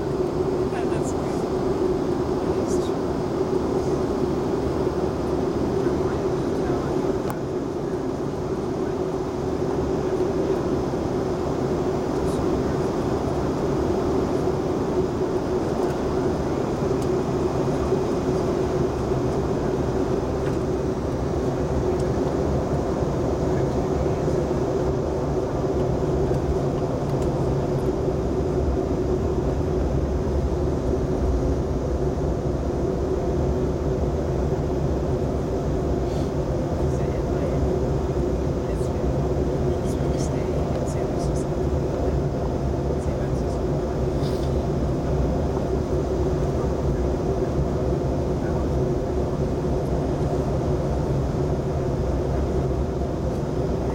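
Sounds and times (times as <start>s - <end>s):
airliner cabin engine drone: 0.0s - 53.9s.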